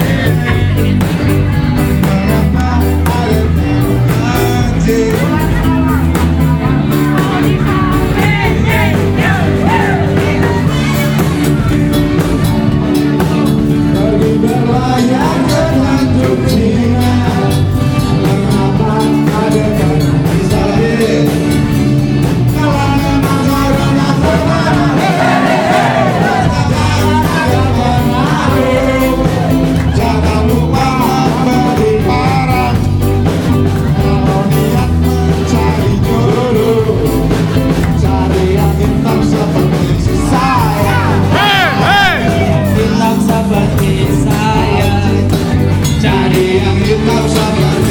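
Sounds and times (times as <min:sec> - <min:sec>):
man singing through microphone: 0:00.0 - 0:12.2, 0:12.8 - 0:47.9.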